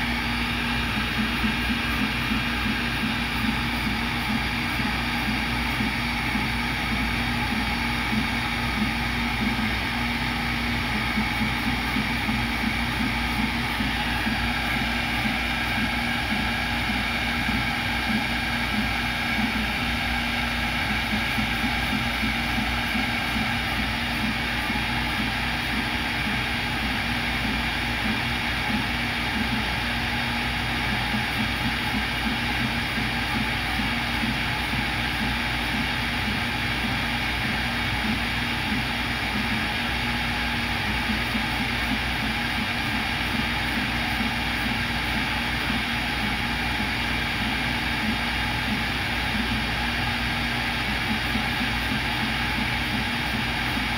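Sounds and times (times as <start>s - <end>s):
cnc router spindle with high whine: 0.0s - 53.9s.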